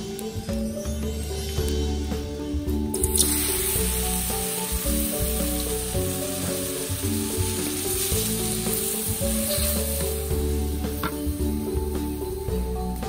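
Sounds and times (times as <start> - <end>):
background music: 0.0 - 13.0
water sizzling in a hot wok: 0.0 - 13.0.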